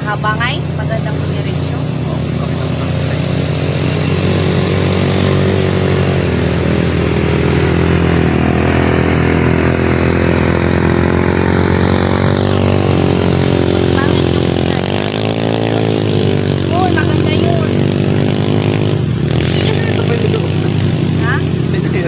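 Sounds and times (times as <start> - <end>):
quad engine running: 0.0 - 22.0.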